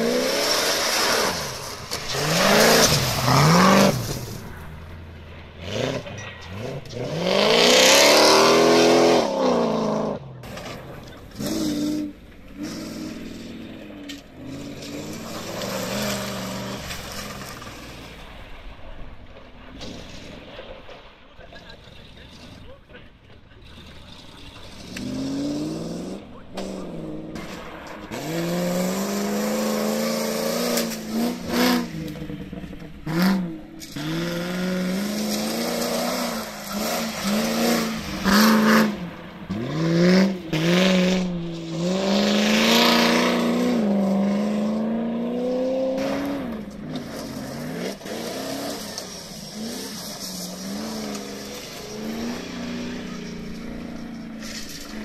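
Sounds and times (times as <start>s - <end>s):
engines revving: 0.0s - 55.0s.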